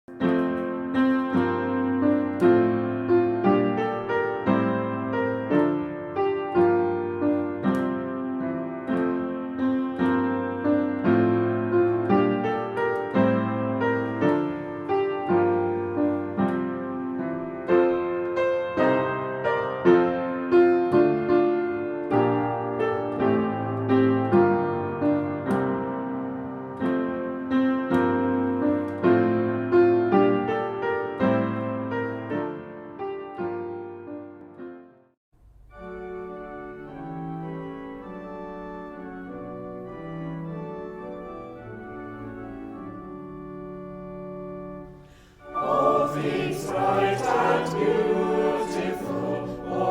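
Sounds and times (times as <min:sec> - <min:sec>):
solo piano music: 0:00.1 - 0:49.9.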